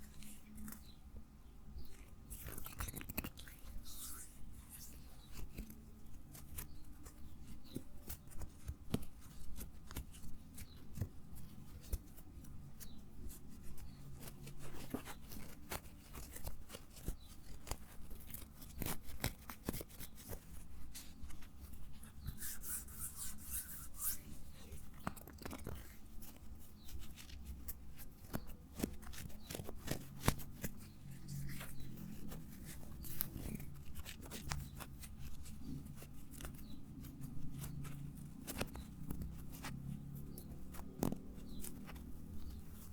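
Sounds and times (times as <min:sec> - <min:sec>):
clicks crackles and scratches: 0:00.0 - 0:01.1, 0:01.8 - 0:42.9.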